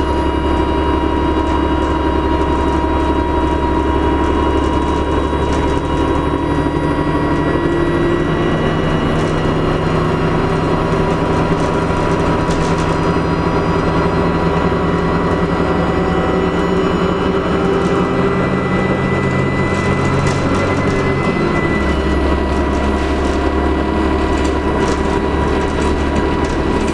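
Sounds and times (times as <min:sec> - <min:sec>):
bus engine low drone: 0:00.0 - 0:26.9
turbocharger whistling whine: 0:00.0 - 0:26.9.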